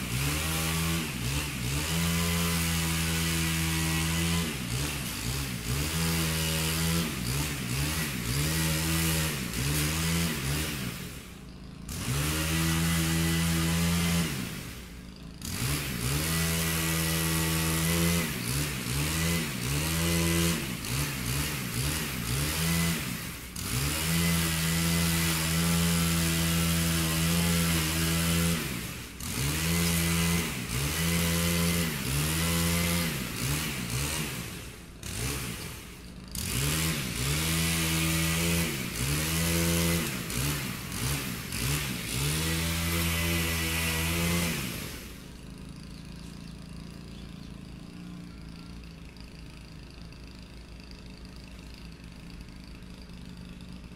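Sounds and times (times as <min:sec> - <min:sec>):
chainsaw cutting branches: 0:00.0 - 0:53.9.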